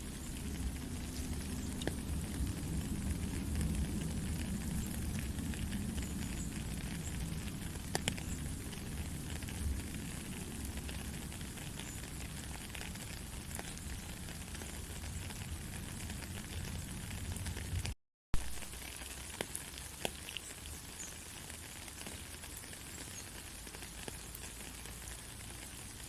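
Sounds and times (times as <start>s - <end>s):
crackling hiss: 0.0s - 26.0s.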